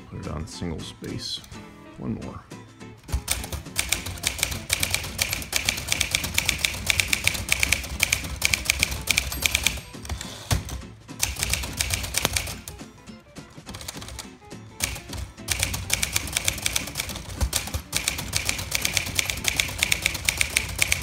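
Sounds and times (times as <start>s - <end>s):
manual typewriter typing: 3.1s - 12.8s, 13.5s - 21.0s.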